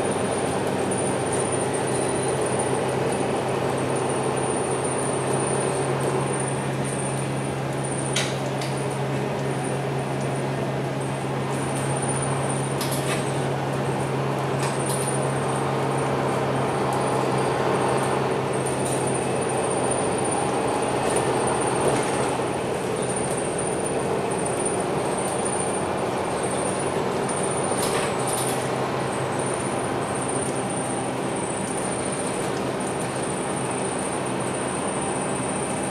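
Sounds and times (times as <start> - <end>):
bus diesel engine hum and whine: 0.0 - 35.9
road noise: 0.0 - 35.9.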